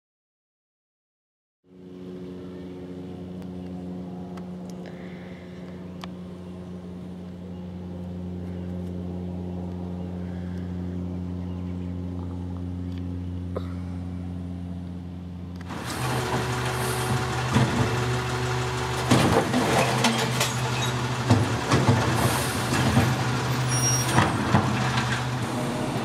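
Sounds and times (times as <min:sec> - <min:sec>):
truck engine running: 0:01.7 - 0:26.0.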